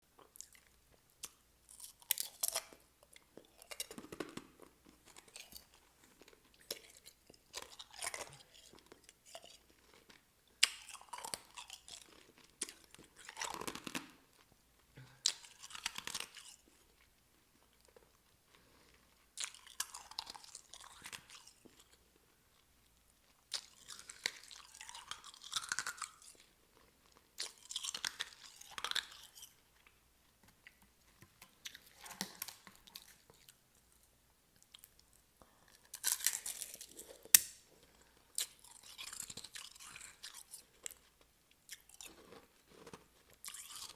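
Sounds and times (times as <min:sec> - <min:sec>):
ice crunching being chewed: 0:00.2 - 0:14.5, 0:15.1 - 0:30.0, 0:34.6 - 0:43.9.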